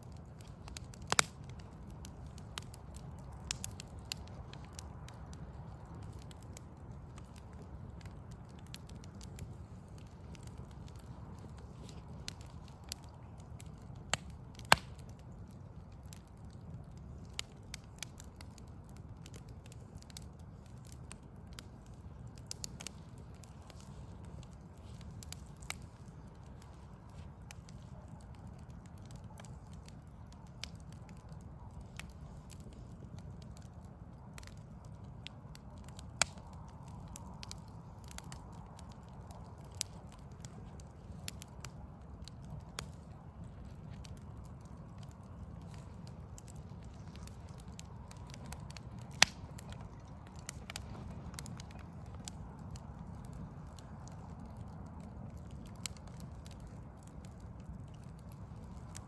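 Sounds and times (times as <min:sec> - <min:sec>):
logs crackling in fire: 0:00.0 - 0:59.0
steady low rumble: 0:00.0 - 0:59.0
sharp pops of fire: 0:00.1 - 0:59.0.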